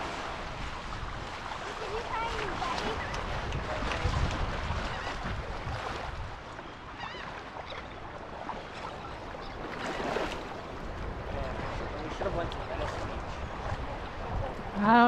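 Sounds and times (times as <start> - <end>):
wind buffeting microphone: 0.0 - 7.0, 7.8 - 15.0
sea water sloshing: 0.0 - 15.0.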